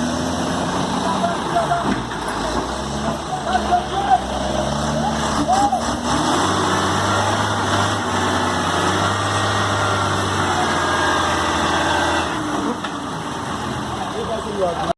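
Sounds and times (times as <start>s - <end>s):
truck engine humming: 0.0s - 14.9s.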